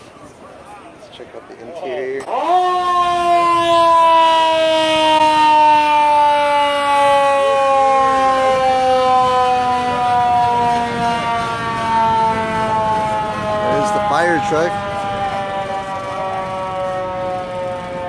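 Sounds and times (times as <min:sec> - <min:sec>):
fire truck siren sliding lower: 0:02.2 - 0:18.0.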